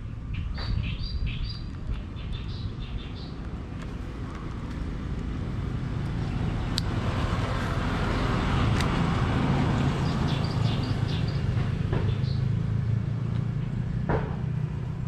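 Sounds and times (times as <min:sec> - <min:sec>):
vehicle low rumble: 0:00.0 - 0:15.0.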